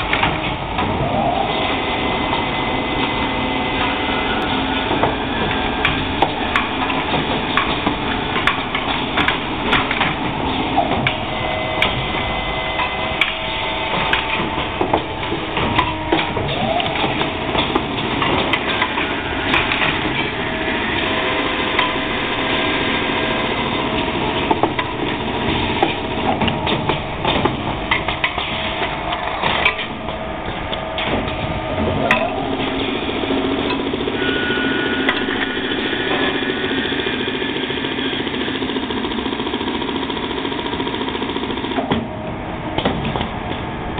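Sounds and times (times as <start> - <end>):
sharp mechanical clicks and knocks: 0.0 - 1.0, 2.3 - 34.3, 34.9 - 43.7
lathe machine drone: 0.0 - 43.9.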